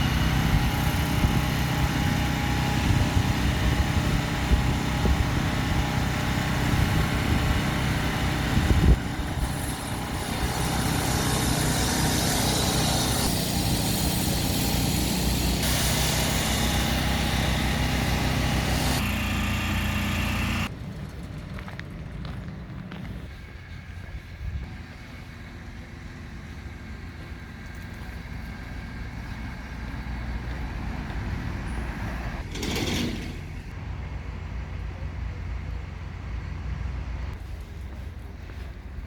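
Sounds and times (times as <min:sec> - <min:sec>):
heavy machinery engine running: 0:00.0 - 0:37.4.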